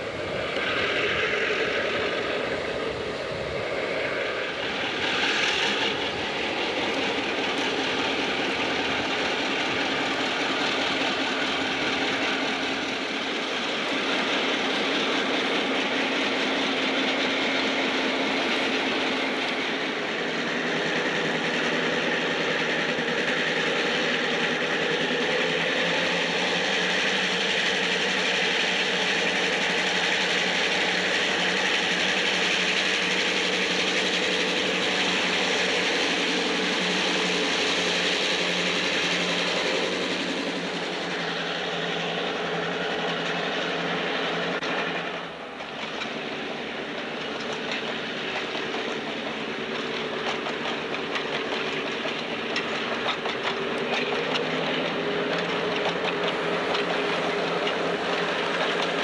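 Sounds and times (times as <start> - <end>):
diesel engine drone: 0.0 - 59.0
train wheels on rails: 0.0 - 59.0.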